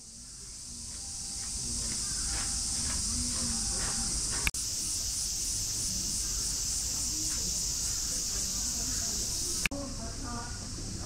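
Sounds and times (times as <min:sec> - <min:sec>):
faint crowd chatter: 0:00.0 - 0:11.0
insects chorus pulsing: 0:00.0 - 0:11.0.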